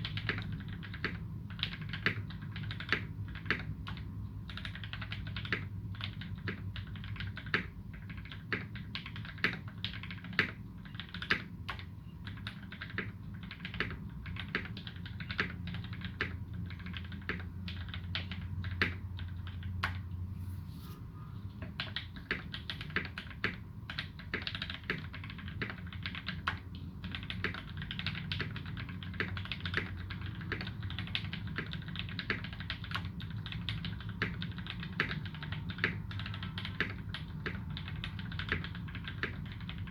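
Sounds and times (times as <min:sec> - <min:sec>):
typing on mechanical keyboard: 0:00.0 - 0:20.0, 0:21.6 - 0:39.9.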